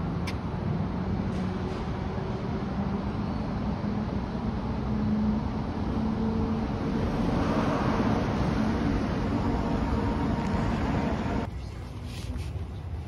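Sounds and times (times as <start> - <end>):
cable car rumbling: 0.9 - 12.3.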